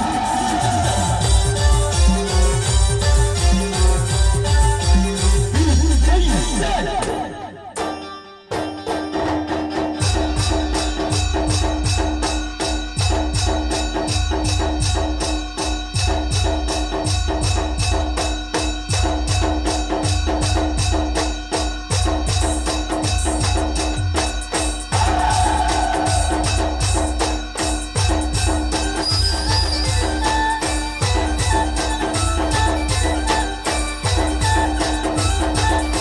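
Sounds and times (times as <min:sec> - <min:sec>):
fast drum beat: 0:00.0 - 0:07.4, 0:10.0 - 0:36.0
jingling percussion: 0:00.0 - 0:36.0.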